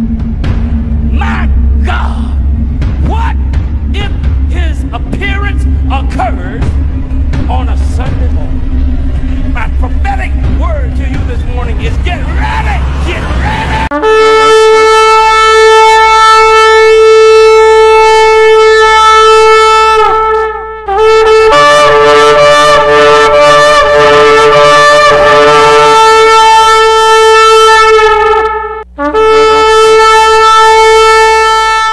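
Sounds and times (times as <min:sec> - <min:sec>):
ram's horn blasts: 0:00.0 - 0:31.9.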